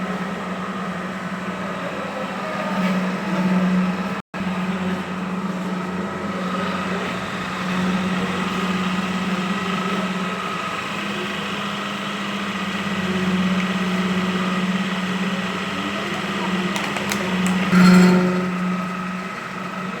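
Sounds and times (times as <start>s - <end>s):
lathe humming with whine: 0.0s - 20.0s.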